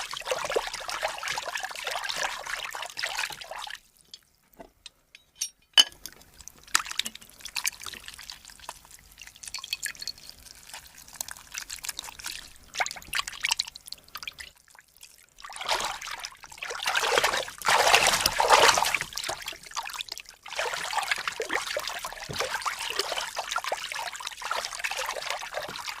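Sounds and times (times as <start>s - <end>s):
liquid trickling: 0.0s - 4.2s, 6.0s - 26.0s
liquid crackles and drips: 0.0s - 4.6s, 6.0s - 26.0s.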